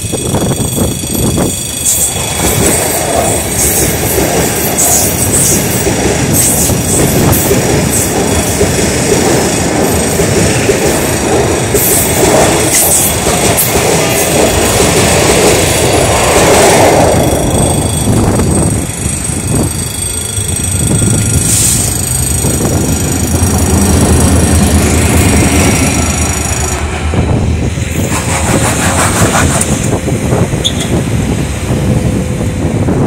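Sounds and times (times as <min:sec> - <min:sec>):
diesel locomotive engine running: 0:00.0 - 0:33.0
electric train passing: 0:00.0 - 0:33.0.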